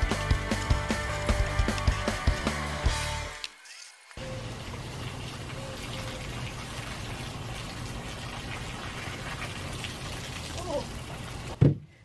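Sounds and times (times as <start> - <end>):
water from hose splashing: 0.0 - 11.7.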